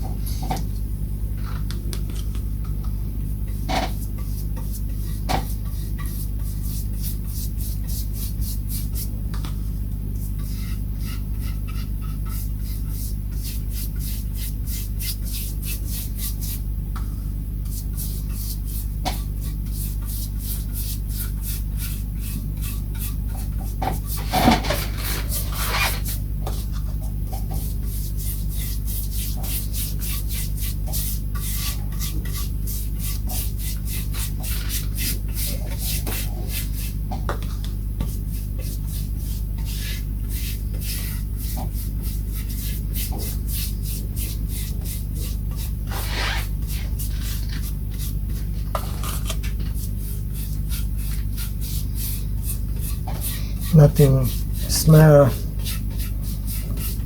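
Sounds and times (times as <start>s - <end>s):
steady low hum: 0.0s - 57.0s
rubbing strokes on bare wood: 4.0s - 9.1s, 10.3s - 16.7s, 17.7s - 26.7s, 27.6s - 37.1s, 38.0s - 57.0s.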